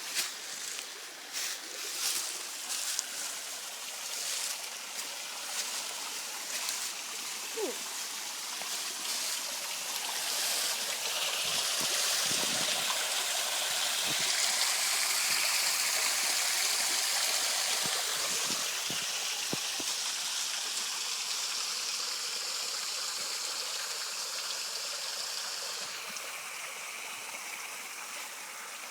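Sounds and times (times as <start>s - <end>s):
small waterfall splashing: 0.0s - 28.9s.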